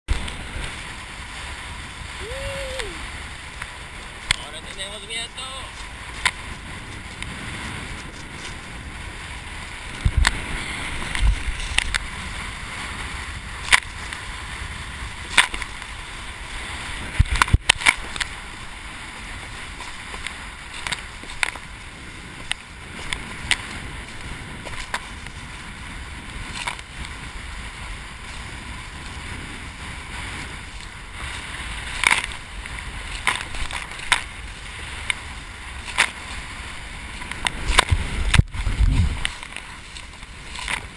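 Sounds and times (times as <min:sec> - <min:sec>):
board slapping water: 0:00.1 - 0:40.9
rush of water: 0:00.1 - 0:40.9.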